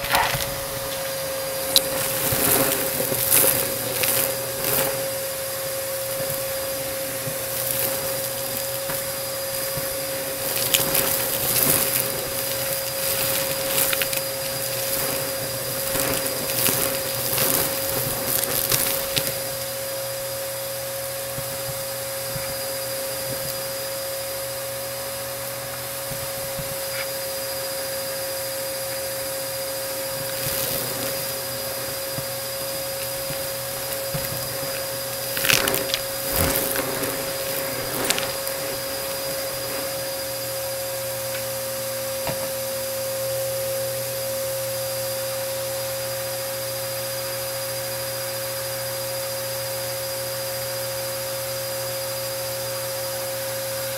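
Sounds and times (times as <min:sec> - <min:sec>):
debris crunching in vacuum: 0:00.0 - 0:26.9, 0:27.6 - 0:44.1
vacuum cleaner running: 0:00.0 - 0:53.9.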